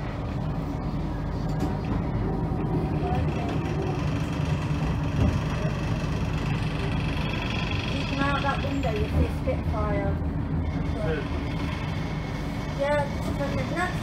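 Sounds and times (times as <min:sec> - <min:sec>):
tram rumbling and humming: 0:00.0 - 0:14.0.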